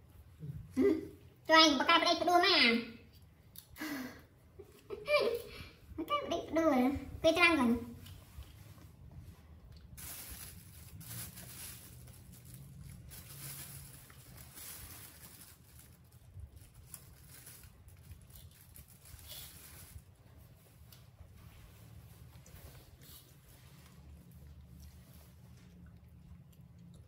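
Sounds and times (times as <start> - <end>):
low steady hum: 2.9 - 27.0.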